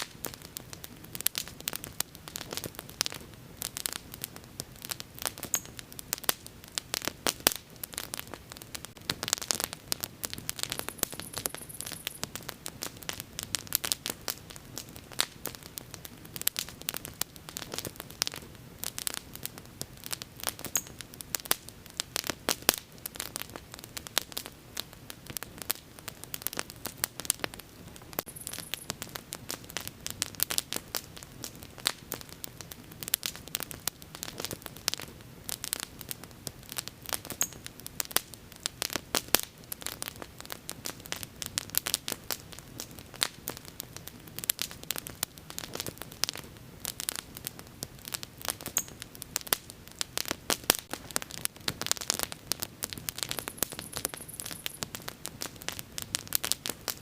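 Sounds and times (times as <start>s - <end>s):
bonfire crackling and popping: 0.0s - 57.0s.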